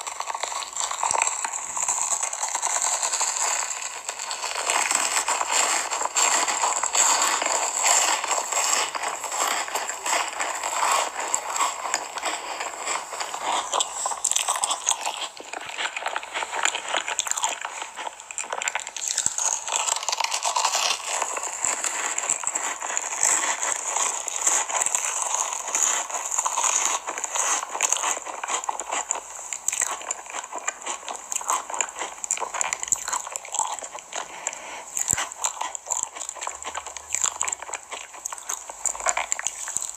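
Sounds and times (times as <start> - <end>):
cookie crunching and chewing: 0.0 - 39.9.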